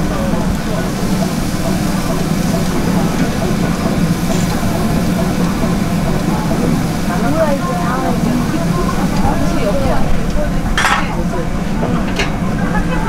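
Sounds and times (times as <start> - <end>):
faint background voices: 0.0 - 13.0
low mechanical rumble: 0.0 - 13.0.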